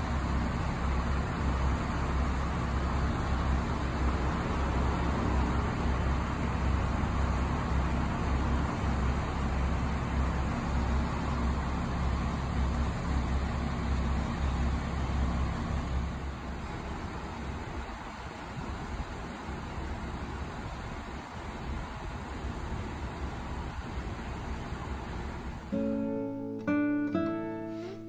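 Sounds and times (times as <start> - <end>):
diesel engine idling: 0.0 - 26.1.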